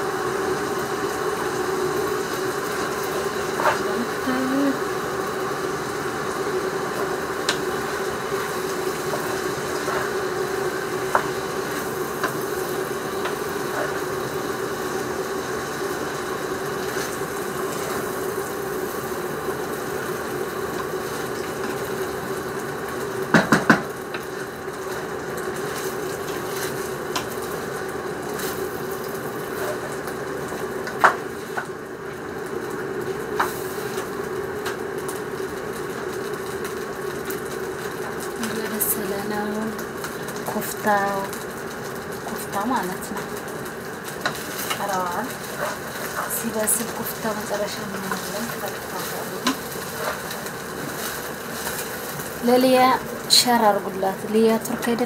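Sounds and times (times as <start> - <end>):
kitchen appliance humming: 0.0 - 55.0.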